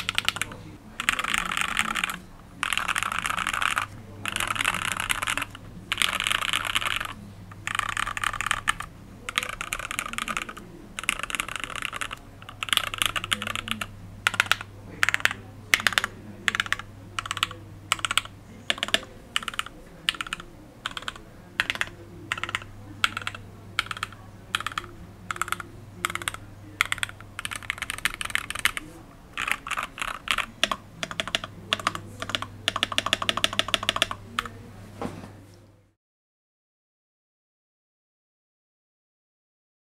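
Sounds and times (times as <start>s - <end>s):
mechanical keyboard typing: 0.0s - 34.6s.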